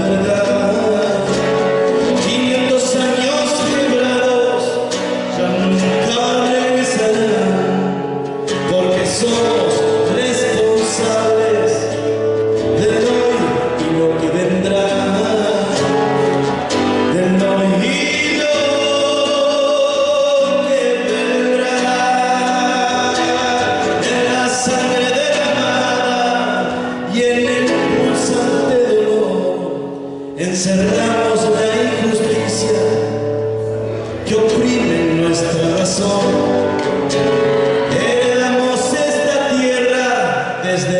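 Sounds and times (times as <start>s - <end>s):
men singing: 0.0s - 33.2s, 34.1s - 40.9s.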